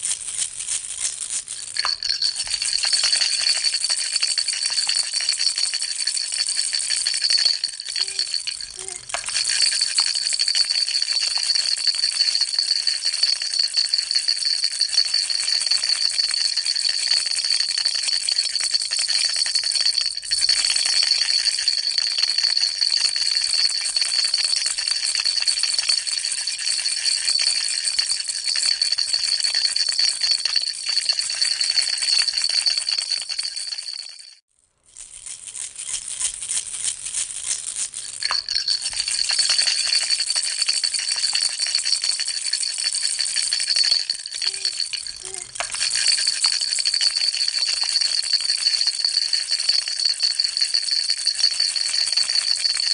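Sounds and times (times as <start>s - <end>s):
baby rattle shaking: 0.0s - 52.9s.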